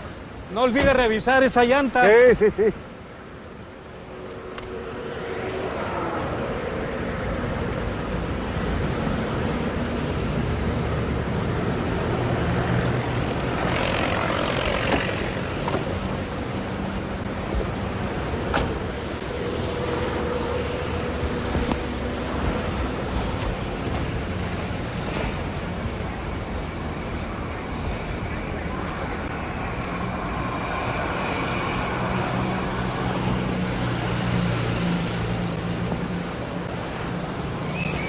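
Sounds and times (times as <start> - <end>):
street traffic: 0.0 - 38.0.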